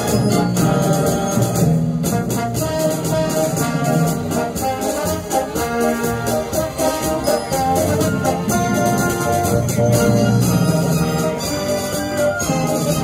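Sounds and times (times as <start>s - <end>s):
orchestra playing with brass: 0.0s - 13.0s.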